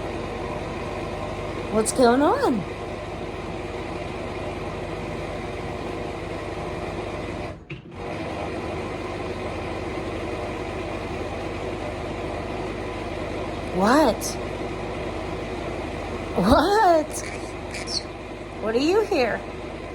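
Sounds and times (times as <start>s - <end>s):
mechanical motor hum: 0.0s - 19.9s.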